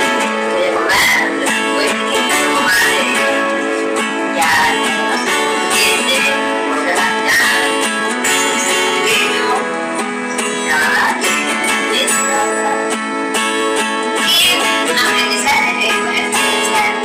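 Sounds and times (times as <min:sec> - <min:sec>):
strummed guitar music: 0:00.0 - 0:17.0.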